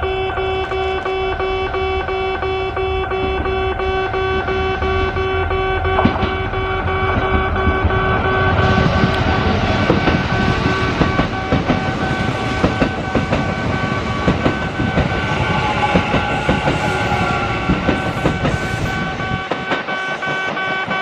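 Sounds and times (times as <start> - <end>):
high ringing tone: 0.0 - 21.0
train wheels clacking on rails: 0.0 - 21.0.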